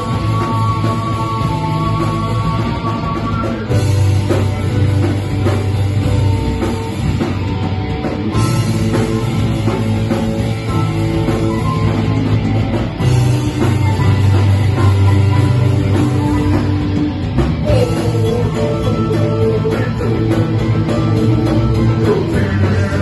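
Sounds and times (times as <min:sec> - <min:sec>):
bass guitar: 0:00.0 - 0:23.0
drum kit: 0:00.0 - 0:23.0
electric guitar: 0:00.0 - 0:23.0
keyboard: 0:00.0 - 0:23.0.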